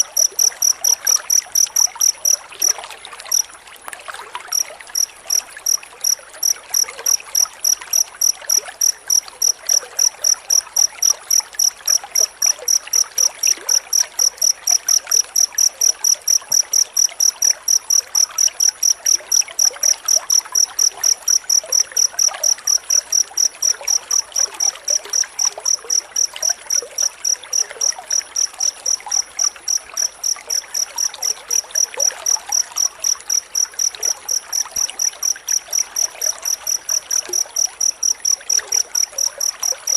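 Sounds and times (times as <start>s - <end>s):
cricket chirping: 0.0s - 3.7s, 4.4s - 39.9s.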